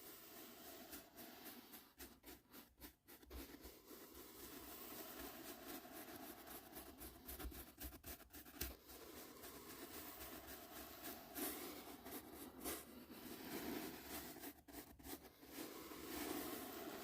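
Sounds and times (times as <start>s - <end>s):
brush rustling on microphone: 0.0s - 17.0s.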